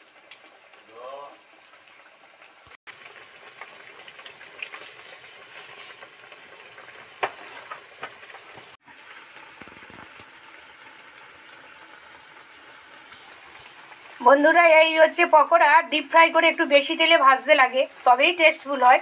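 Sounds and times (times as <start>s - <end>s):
hot oil popping: 0.0s - 19.0s
oil sizzling and bubbling: 0.0s - 19.0s.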